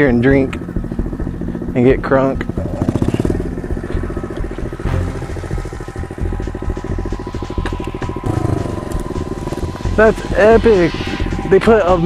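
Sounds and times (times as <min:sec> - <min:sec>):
motorbike engine running at low revs: 0:00.0 - 0:12.0.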